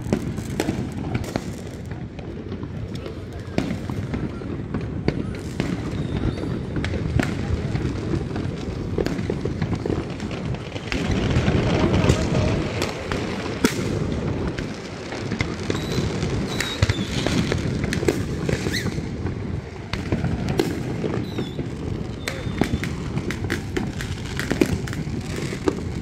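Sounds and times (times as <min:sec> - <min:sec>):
fireworks cracks and bangs: 0:00.0 - 0:26.0
rumble of fireworks booms: 0:00.0 - 0:26.0.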